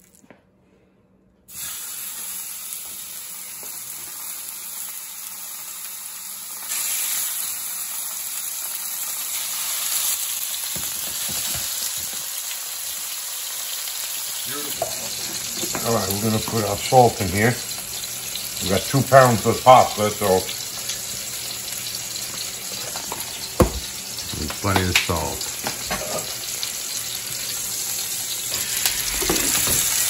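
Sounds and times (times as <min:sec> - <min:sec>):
chicken sizzling in hot oil: 0:01.5 - 0:30.0.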